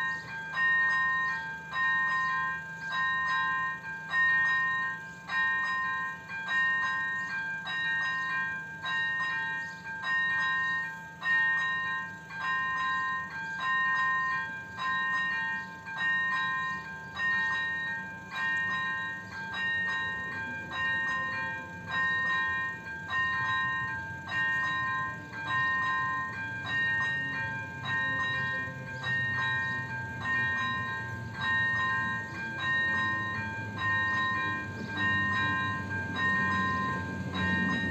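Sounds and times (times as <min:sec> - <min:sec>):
level crossing warning bell: 0:00.0 - 0:37.9.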